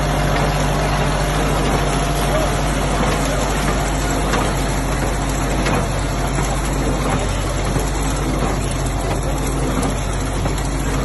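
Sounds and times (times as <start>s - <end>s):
hay baler running: 0.0s - 11.0s
tractor engine drone: 0.0s - 11.0s.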